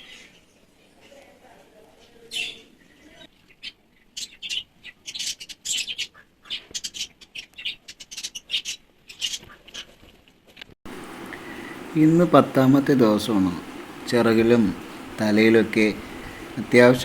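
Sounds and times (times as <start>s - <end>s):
nestlings chirping for food: 2.2s - 10.0s, 10.9s - 17.0s.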